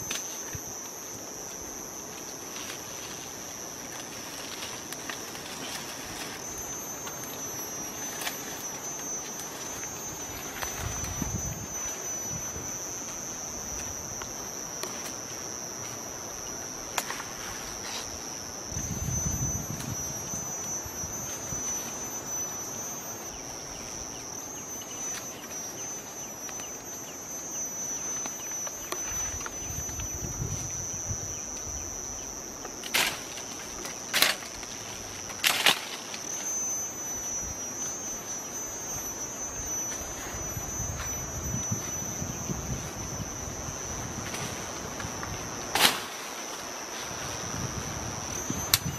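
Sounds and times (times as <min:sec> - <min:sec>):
high-pitched insect chorus: 0:00.0 - 0:48.9.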